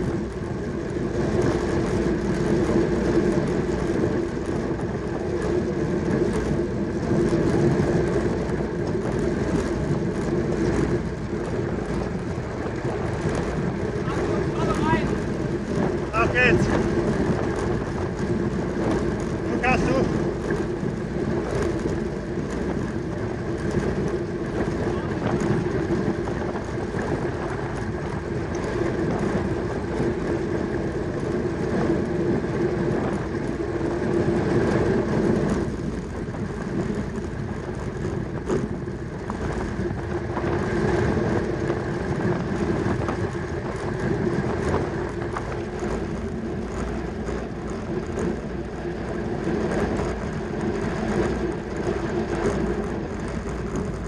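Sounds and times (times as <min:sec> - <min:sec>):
bicycle tyres humming: 0:00.0 - 0:54.0
wind rushing: 0:00.0 - 0:54.0.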